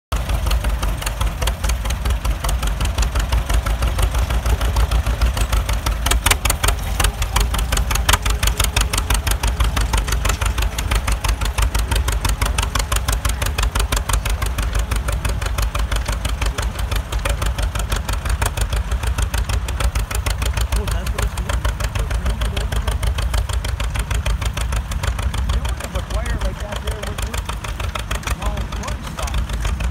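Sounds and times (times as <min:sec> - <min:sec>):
tractor engine under load: 0:00.1 - 0:29.9.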